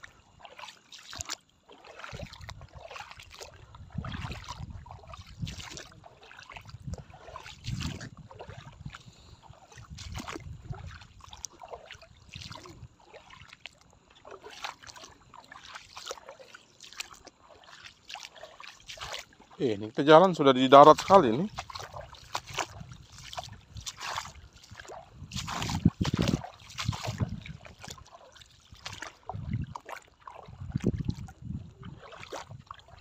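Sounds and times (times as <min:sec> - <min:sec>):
feet wading through water: 0:00.0 - 0:33.0
water trickling: 0:00.0 - 0:33.0.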